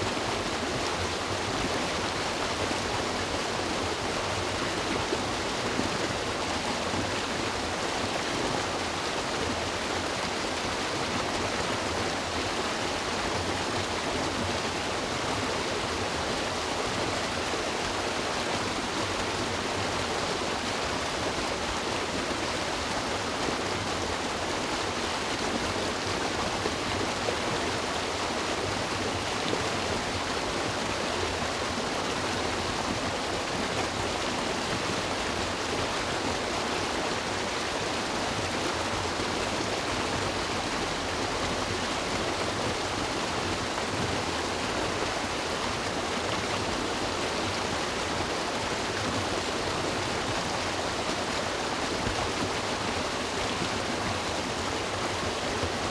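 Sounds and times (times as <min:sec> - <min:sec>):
river flowing over rocks: 0:00.0 - 0:55.9.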